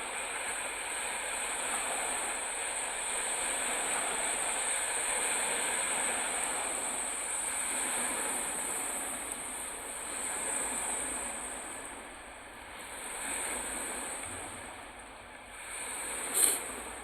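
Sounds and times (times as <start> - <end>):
steady high hiss: 0.0 - 17.0
lake waves breaking on shore: 1.0 - 15.0.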